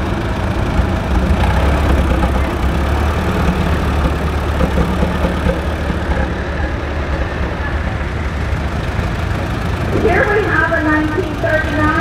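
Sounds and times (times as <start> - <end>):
tractor engine low rumble: 0.0 - 12.0.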